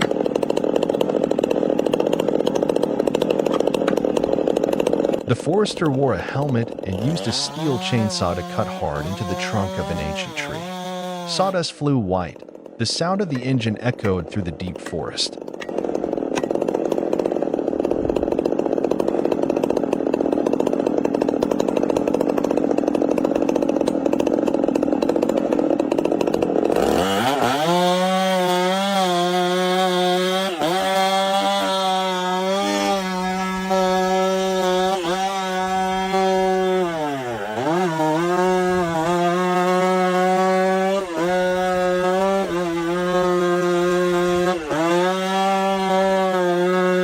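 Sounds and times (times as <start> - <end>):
chainsaw cutting tree trunk: 0.0 - 47.0.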